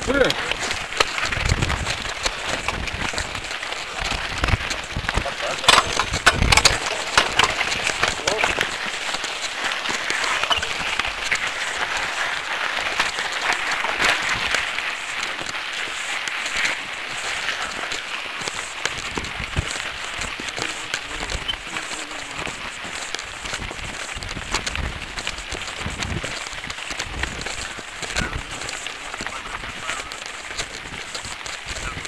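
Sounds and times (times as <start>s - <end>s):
bike tyres crunching on gravel: 0.0s - 32.0s
stones clicking and rattling: 0.0s - 32.0s.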